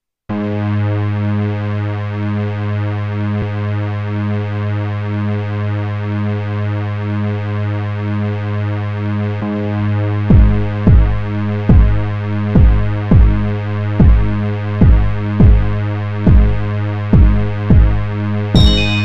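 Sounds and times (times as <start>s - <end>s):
deep electronic drone chord: 0.3s - 19.0s.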